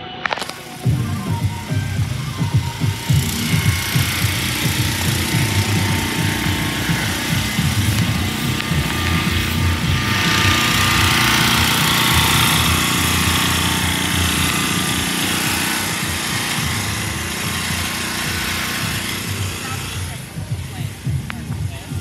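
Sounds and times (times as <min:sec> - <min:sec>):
bright hiss: 0:00.0 - 0:22.0
car engine rumbling: 0:00.0 - 0:22.0.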